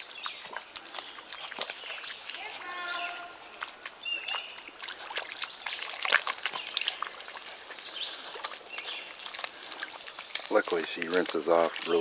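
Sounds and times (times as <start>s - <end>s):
dog splashing through water: 0.0s - 12.0s.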